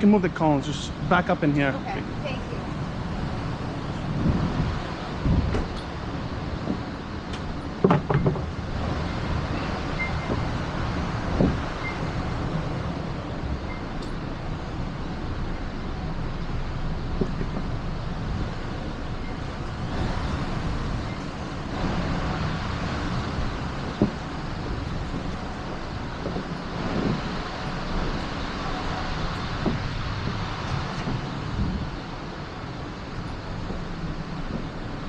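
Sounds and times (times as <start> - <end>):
traffic noise: 0.0 - 35.0.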